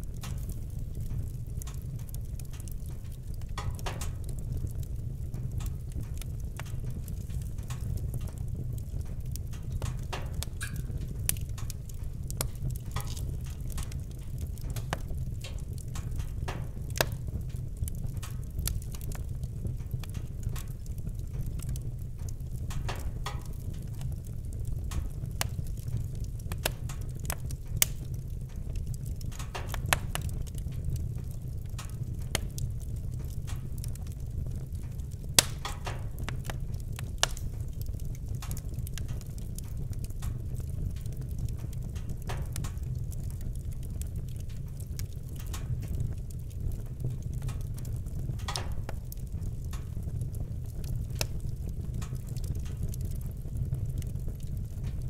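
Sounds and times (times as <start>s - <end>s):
low fire rumble: 0.0s - 55.0s
sharp fire pops: 0.0s - 55.0s
wood fire crackling: 0.0s - 55.0s.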